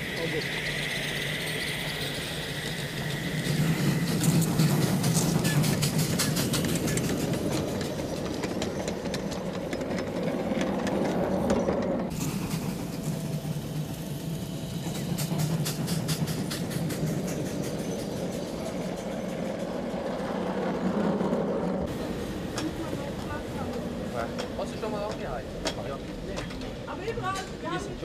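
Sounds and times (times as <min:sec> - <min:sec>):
model train humming: 0:00.0 - 0:28.0.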